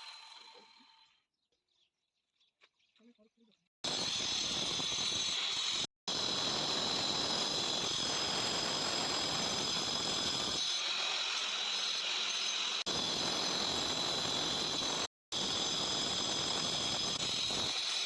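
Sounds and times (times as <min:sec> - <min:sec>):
stone cutting machine grinding: 0:00.0 - 0:00.9, 0:03.9 - 0:18.0.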